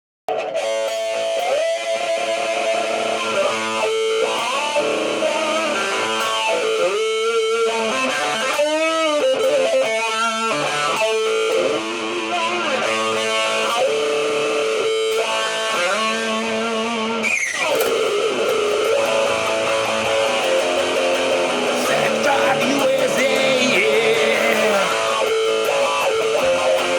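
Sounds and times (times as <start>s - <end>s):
electric guitar with bent notes: 0.3s - 26.9s.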